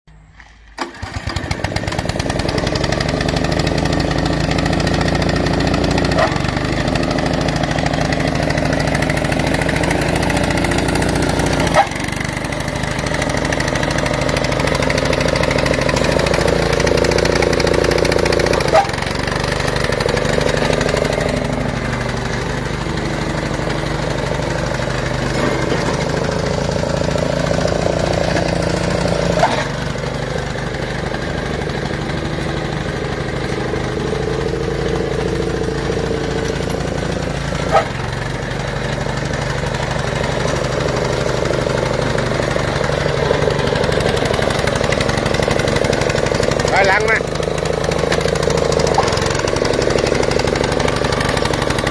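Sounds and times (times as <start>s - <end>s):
small petrol engine running: 0.1s - 51.9s.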